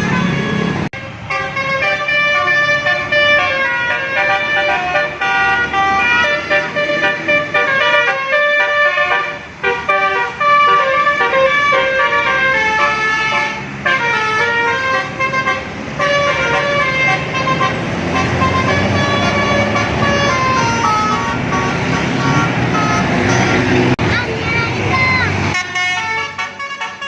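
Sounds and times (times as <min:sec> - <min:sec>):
heavy low engine rumble: 0:00.0 - 0:27.0
musical air horn tune: 0:00.1 - 0:23.7, 0:25.5 - 0:27.0.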